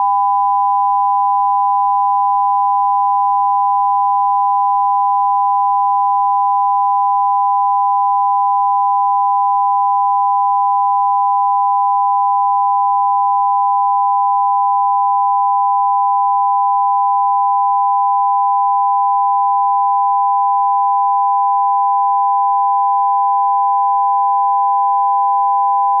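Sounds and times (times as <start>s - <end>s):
two steady pure tones: 0.0s - 26.0s.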